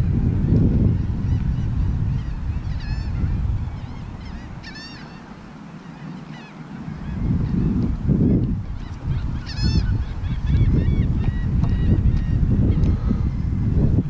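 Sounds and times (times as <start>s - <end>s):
birds harsh calls: 0.9s - 7.8s, 8.6s - 13.5s.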